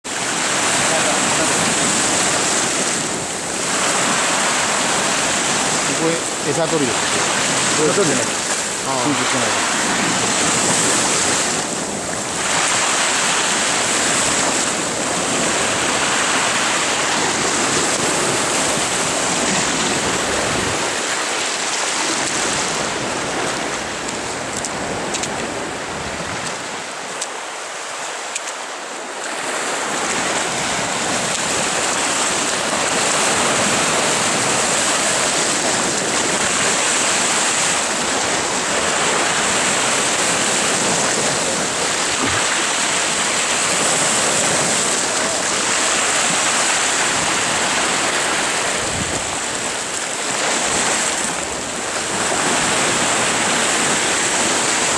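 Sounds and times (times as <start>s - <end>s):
waves breaking on rocks: 0.0s - 54.9s.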